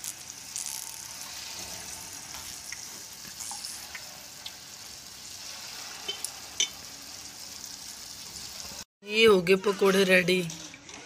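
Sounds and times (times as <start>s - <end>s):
fritters sizzling in hot oil: 0.0s - 8.9s.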